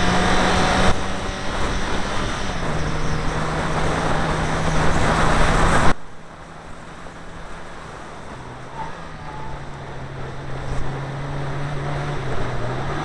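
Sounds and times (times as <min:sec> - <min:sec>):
car engine running hard: 0:00.0 - 0:13.0
road and tyre noise: 0:00.0 - 0:13.0.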